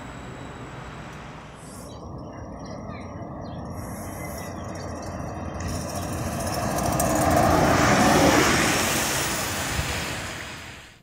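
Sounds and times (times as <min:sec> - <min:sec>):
diesel locomotive engine rumbling: 0:00.0 - 0:10.2.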